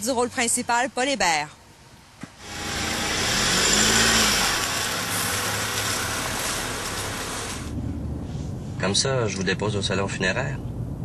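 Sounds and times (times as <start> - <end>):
car engine and road noise: 2.1 - 11.0.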